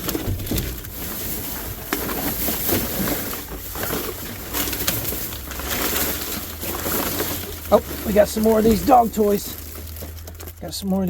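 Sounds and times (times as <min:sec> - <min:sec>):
plastic bags rustling: 0:00.0 - 0:11.0.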